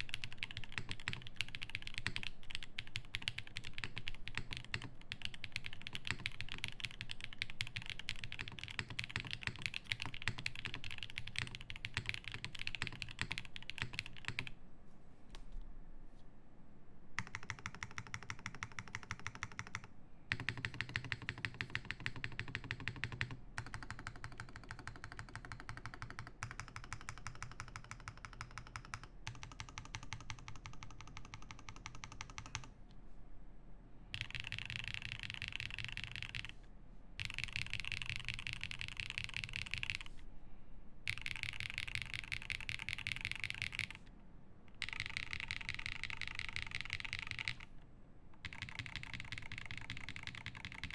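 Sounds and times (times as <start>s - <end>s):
typing on a mechanical keyboard: 0.0s - 14.6s, 17.2s - 32.7s, 34.1s - 36.6s, 37.2s - 40.1s, 41.1s - 44.0s, 44.8s - 47.7s, 48.4s - 50.9s.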